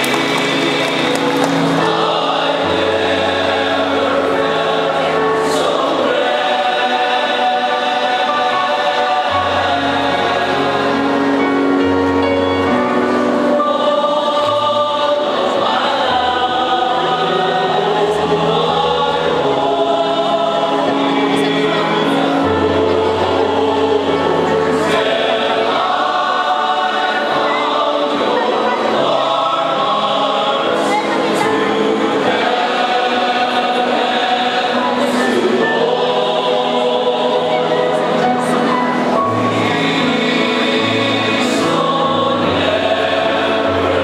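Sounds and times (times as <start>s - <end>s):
male choir singing harmony: 0.0s - 44.0s.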